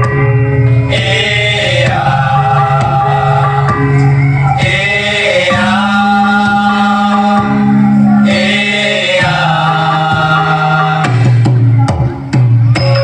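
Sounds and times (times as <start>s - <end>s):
dance music: 0.0s - 13.0s
chanted vocal lines: 0.4s - 13.0s.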